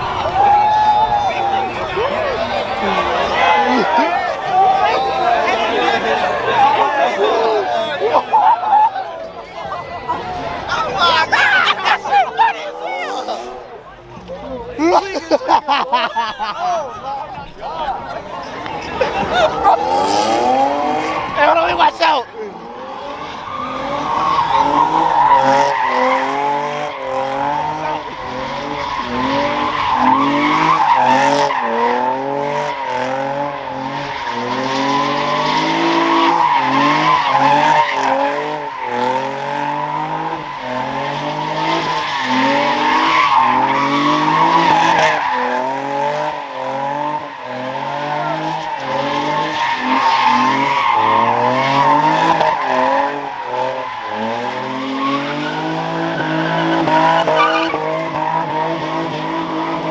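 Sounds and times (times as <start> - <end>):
car engine revving: 0.0 - 59.9
tires squealing: 0.0 - 59.9.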